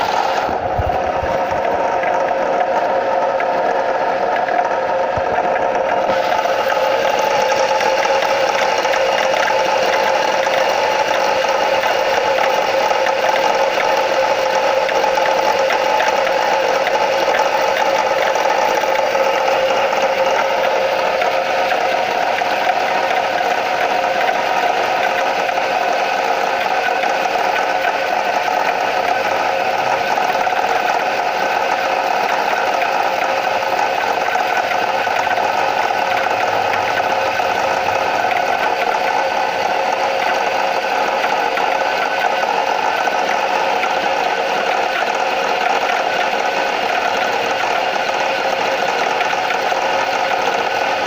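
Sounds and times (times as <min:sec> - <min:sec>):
engine running with knocking clatter: 0:00.0 - 0:51.0.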